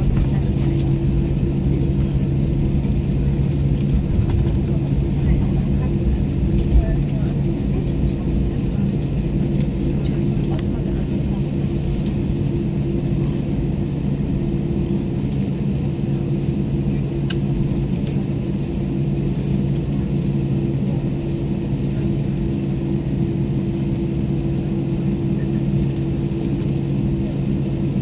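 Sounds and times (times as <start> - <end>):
jet engine drone in cabin: 0.0 - 28.0.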